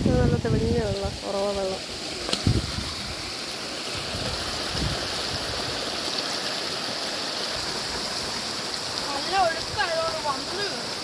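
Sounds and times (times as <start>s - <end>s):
stream flowing over rocks: 0.0s - 11.0s.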